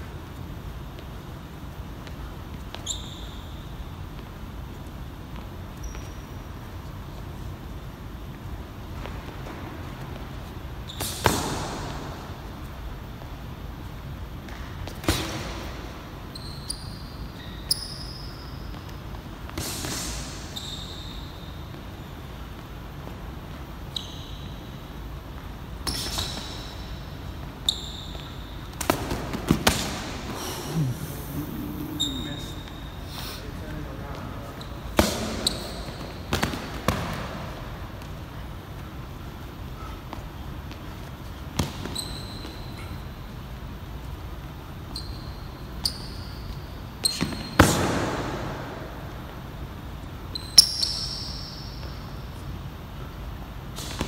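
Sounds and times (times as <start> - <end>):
sneakers squeaking on floor: 0.0 - 54.0.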